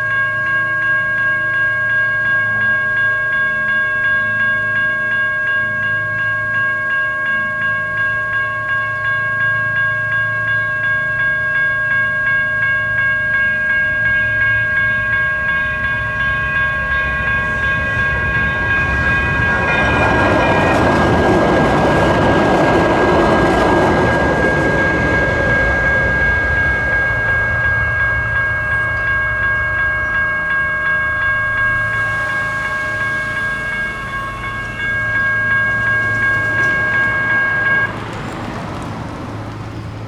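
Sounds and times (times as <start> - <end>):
crossing bell ringing: 0.0 - 40.0
train wheel and rail noise: 0.0 - 40.0.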